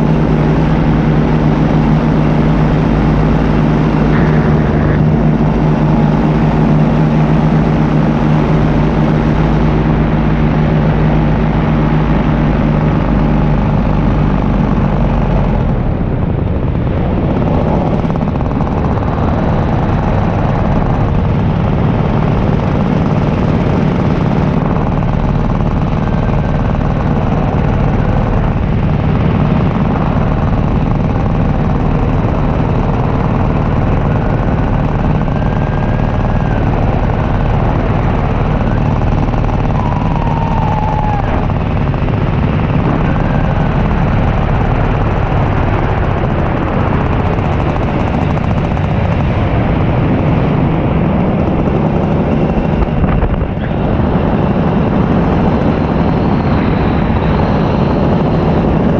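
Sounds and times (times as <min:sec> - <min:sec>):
paramotor engine drone: 0:00.0 - 0:58.9.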